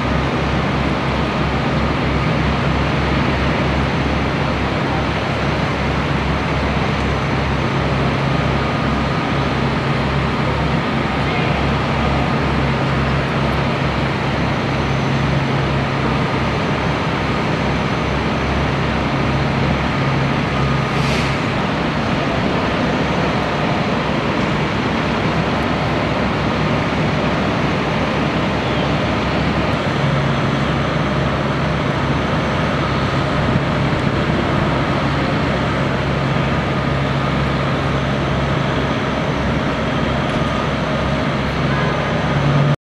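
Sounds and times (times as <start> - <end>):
diesel engines droning: 0.0 - 42.8.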